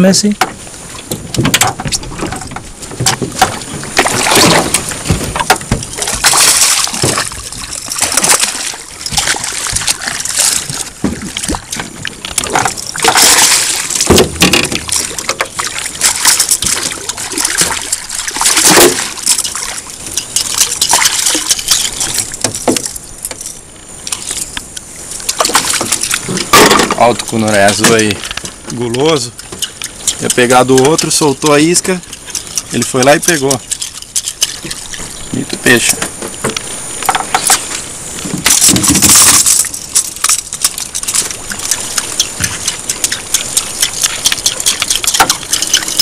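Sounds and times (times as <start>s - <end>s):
water sloshing: 0.0s - 46.0s
fish splashing at surface: 3.0s - 23.0s, 25.2s - 35.1s, 38.4s - 46.0s.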